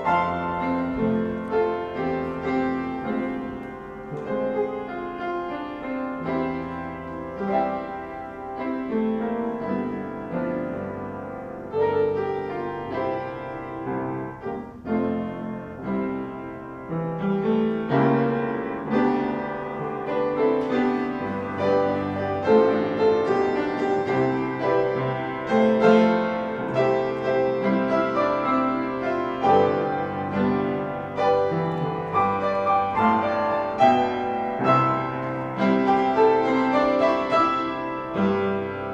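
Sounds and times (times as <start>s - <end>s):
slow classical piano music: 0.0s - 38.9s.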